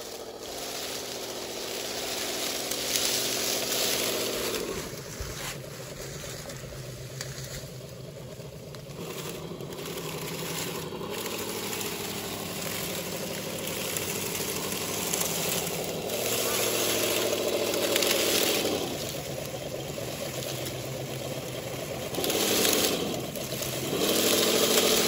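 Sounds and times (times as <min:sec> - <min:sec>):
leaves crackling under tyres: 0:00.0 - 0:25.0
rc truck motor whining: 0:00.0 - 0:25.0.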